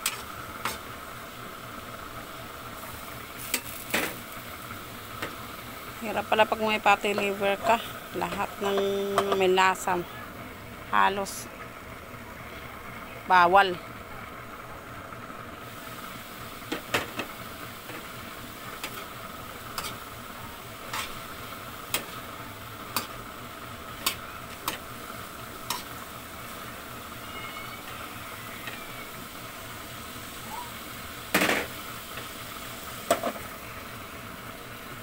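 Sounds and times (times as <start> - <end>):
food sizzling in pan: 0.0 - 11.3, 14.4 - 35.0.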